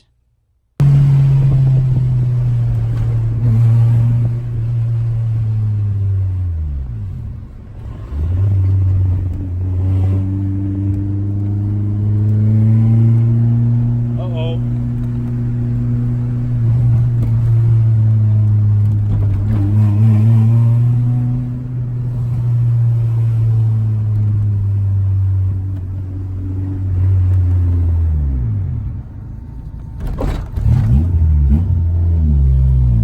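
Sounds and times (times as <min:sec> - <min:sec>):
car engine revving: 0:00.8 - 0:33.0
car engine running: 0:00.8 - 0:33.0.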